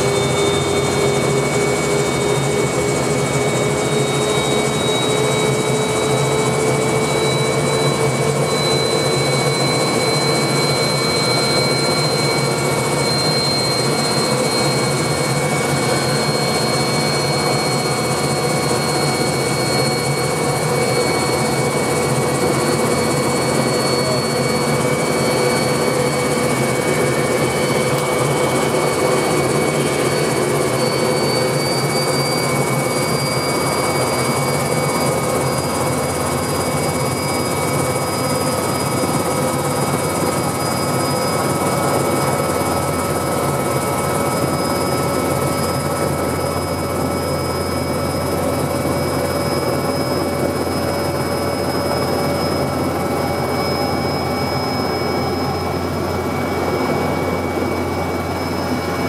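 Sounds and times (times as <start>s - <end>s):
helicopter engine and rotor whine: 0.0s - 59.0s.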